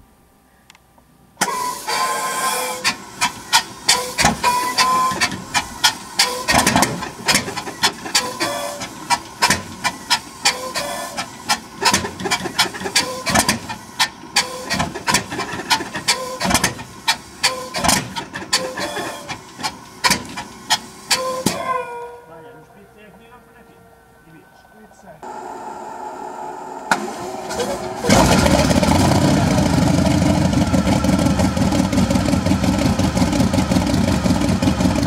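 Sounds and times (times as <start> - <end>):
radial engine coughing and popping: 1.4 - 23.8, 26.9 - 35.0.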